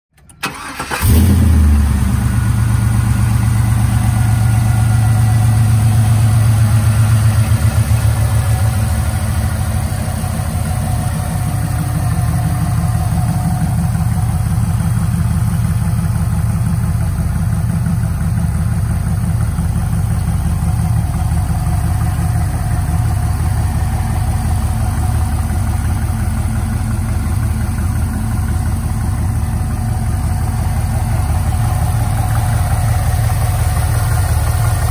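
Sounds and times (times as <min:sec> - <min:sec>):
car engine starting and idling: 0:00.1 - 0:34.9
deep exhaust rumble: 0:00.5 - 0:34.9.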